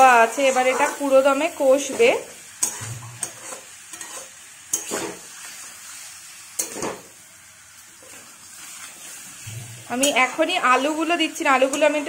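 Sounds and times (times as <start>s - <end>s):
spatula scraping a pot: 0.0s - 5.7s, 8.0s - 12.0s
chicken sizzling in a pot: 0.0s - 12.0s.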